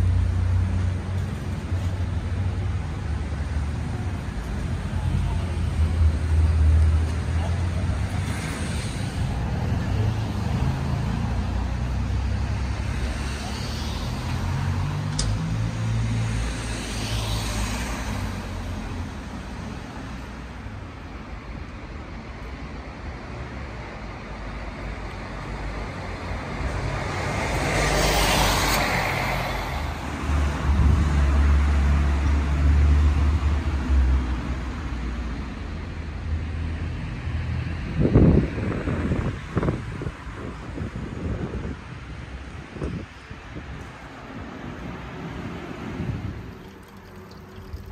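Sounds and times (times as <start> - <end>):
cars passing: 0.0 - 47.9
low traffic rumble: 0.0 - 47.9.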